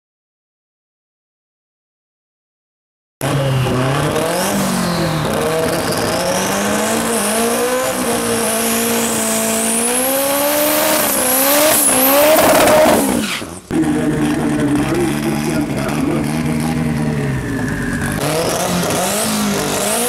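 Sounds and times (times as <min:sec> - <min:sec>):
truck engine revving: 0:03.2 - 0:20.0.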